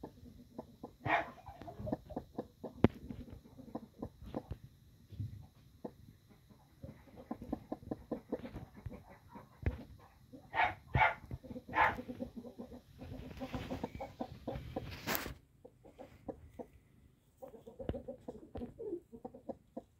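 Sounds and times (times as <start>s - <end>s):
hen clucking: 0.0s - 4.6s, 5.5s - 19.9s.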